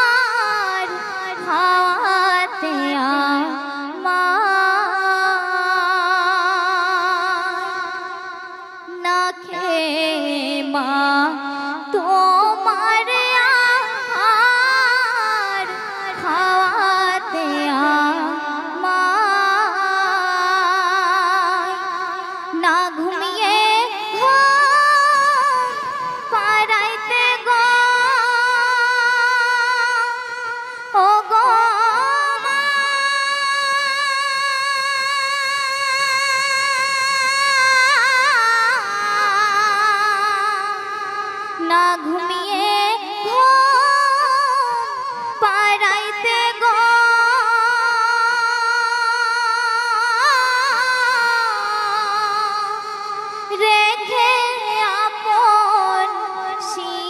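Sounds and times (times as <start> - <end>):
woman singing into a microphone: 0.0 - 57.0.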